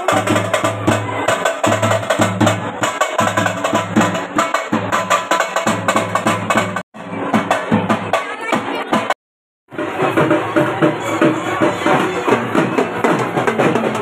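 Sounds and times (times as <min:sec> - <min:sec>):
drum beaten in fast rhythm: 0:00.0 - 0:14.0.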